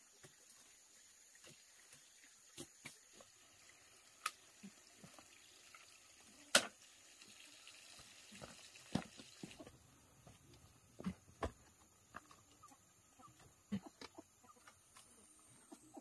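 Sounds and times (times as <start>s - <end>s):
faint steady background noise: 0.0s - 16.0s.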